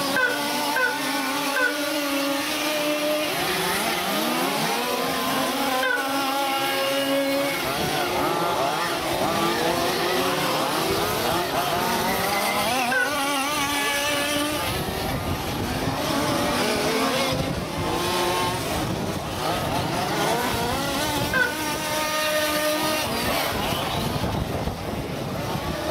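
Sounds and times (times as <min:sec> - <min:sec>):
small two-stroke engines revving: 0:00.0 - 0:25.9.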